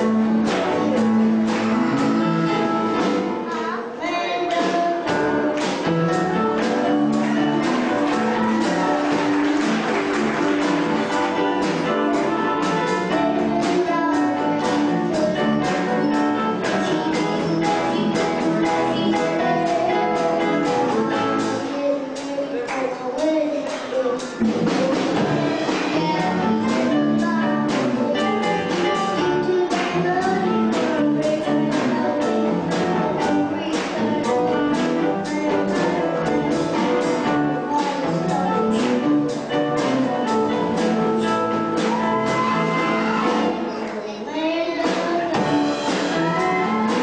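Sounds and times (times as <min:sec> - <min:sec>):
country band playing: 0:00.0 - 0:47.0
person singing: 0:00.0 - 0:47.0.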